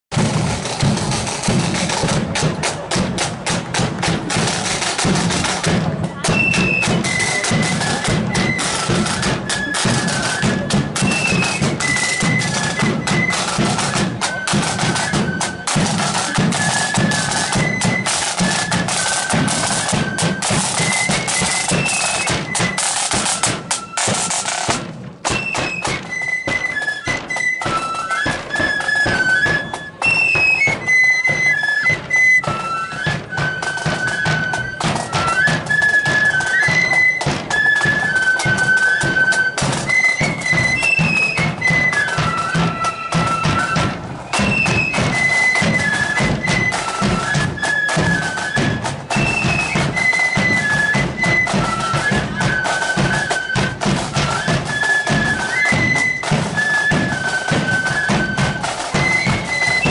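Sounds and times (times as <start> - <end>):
flute melody: 0.1 - 59.9
side drum rolls: 0.1 - 59.9.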